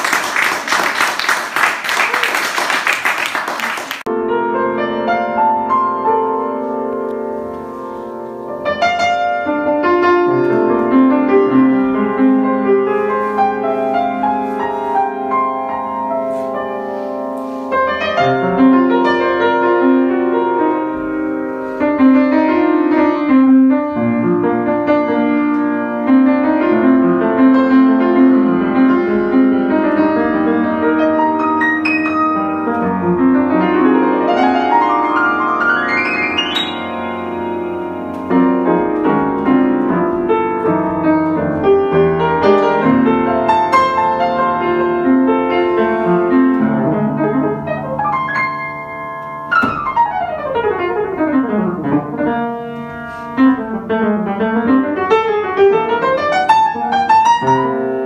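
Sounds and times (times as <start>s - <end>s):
upright piano playing: 2.8s - 58.0s.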